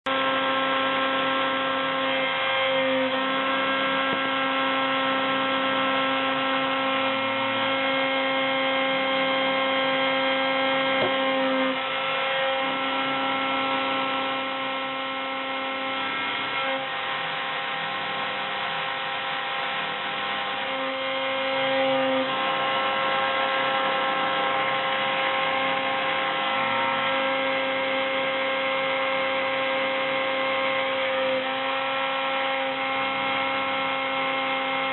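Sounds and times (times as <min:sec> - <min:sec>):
milling machine whine: 0:00.1 - 0:34.9.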